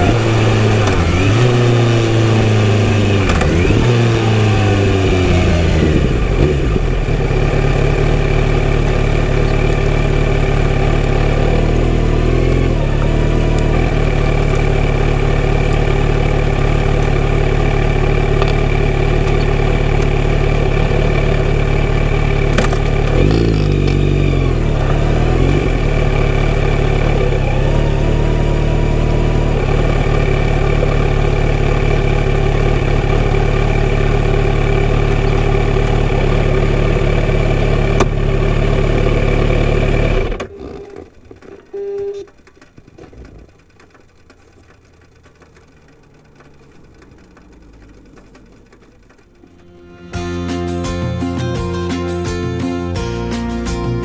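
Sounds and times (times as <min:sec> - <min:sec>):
motorcycle engine idling: 0:00.0 - 0:51.7.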